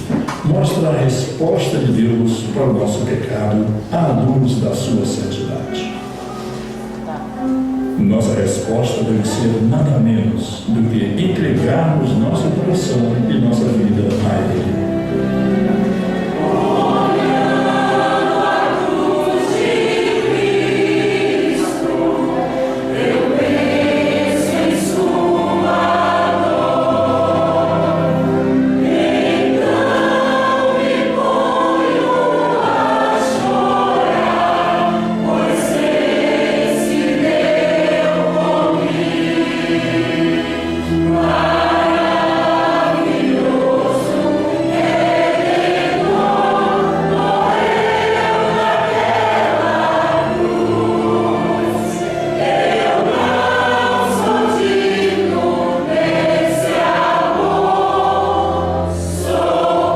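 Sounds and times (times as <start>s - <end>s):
choir singing: 0.0s - 59.9s
instrumental accompaniment: 0.0s - 59.9s.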